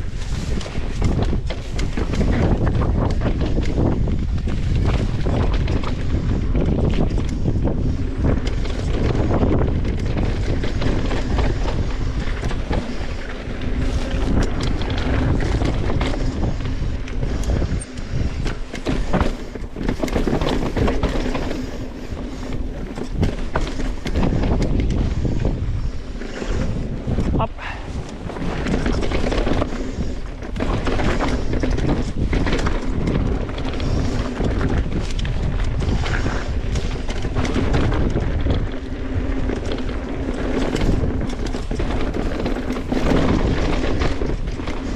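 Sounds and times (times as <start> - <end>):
bike clattering over bumps: 0.0 - 44.9
tyres rolling over dirt and stones: 0.0 - 44.9
wind buffeting microphone: 0.0 - 44.9.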